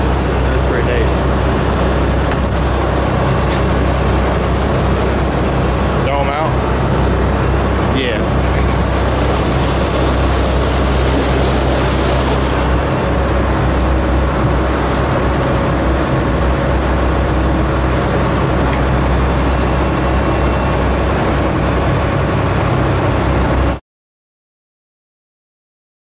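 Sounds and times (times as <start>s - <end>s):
motorboat engine humming: 0.0s - 23.8s
water rushing along hull: 0.0s - 23.8s.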